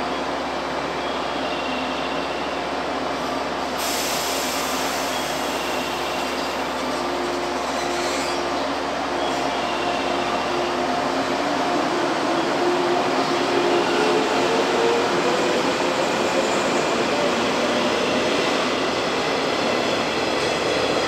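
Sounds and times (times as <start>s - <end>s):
electric train pulling away: 3.8s - 21.0s.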